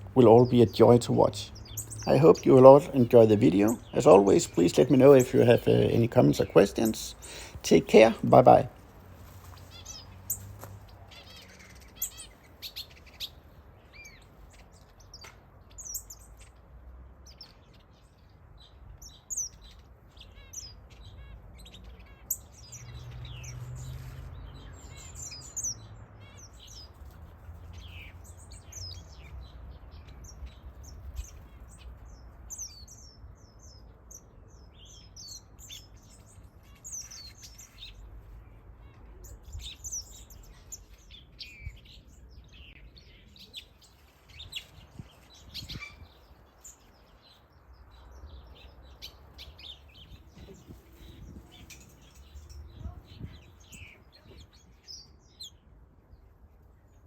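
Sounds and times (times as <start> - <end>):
finches chirping and calling: 0.0 - 8.8, 9.5 - 38.1, 38.8 - 55.7.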